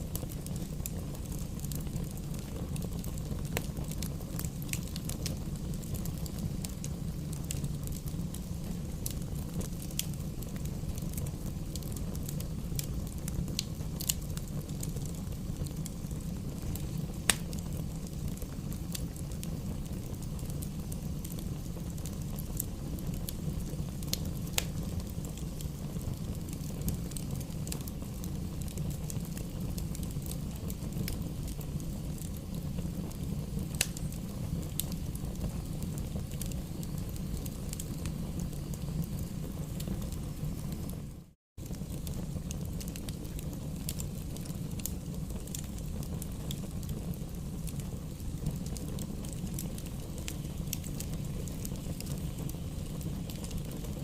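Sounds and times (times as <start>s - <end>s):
fire flames rumbling: 0.0s - 54.0s
wood fire crackling and popping: 0.0s - 54.0s.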